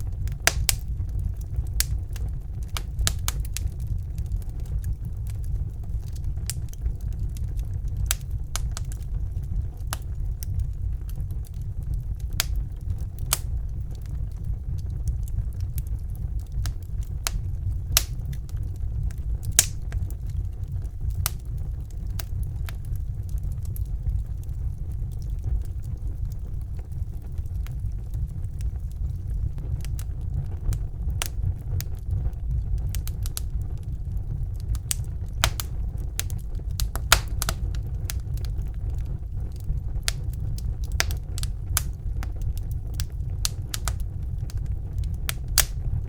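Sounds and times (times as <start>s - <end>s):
logs crackling and popping: 0.0s - 46.0s
low rumble of flames: 0.0s - 46.0s.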